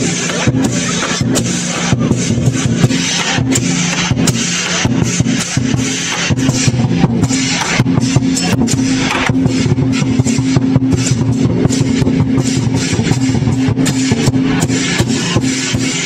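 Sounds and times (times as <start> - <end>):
crashing cymbals: 0.0 - 16.0
large drum fast rhythm: 0.0 - 16.0.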